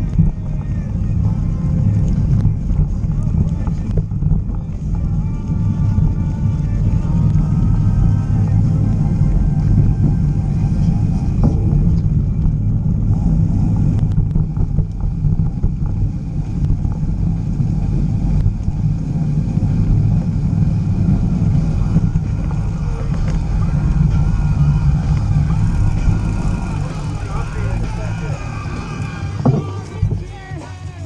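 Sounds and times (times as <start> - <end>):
wind buffeting microphone: 0.0 - 30.7
tyres rolling over dirt: 0.0 - 31.0.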